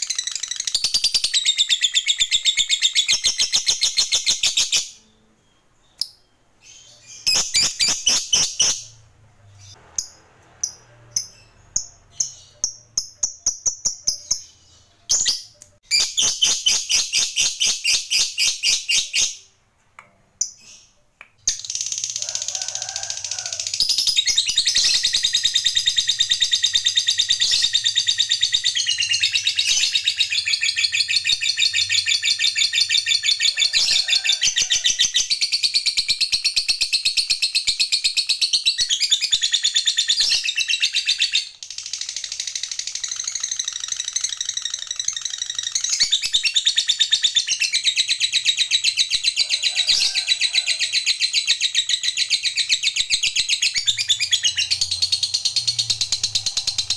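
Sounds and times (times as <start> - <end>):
lovebird chattering song: 5.8 - 9.0, 9.6 - 19.4, 23.5 - 50.1, 50.8 - 56.9.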